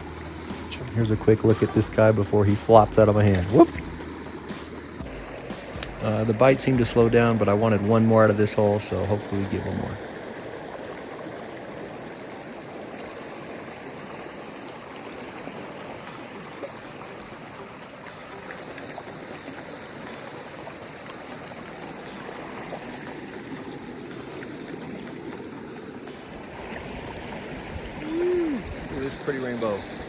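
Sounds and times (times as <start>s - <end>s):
fast river water rushing: 0.0s - 30.0s.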